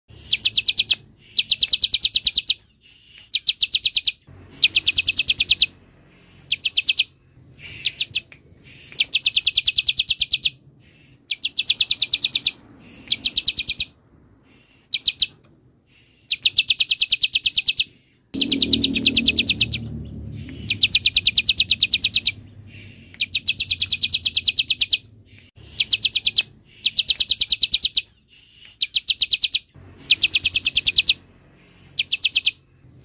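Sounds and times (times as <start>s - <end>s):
bird singing buzzy trills: 0.1s - 33.0s.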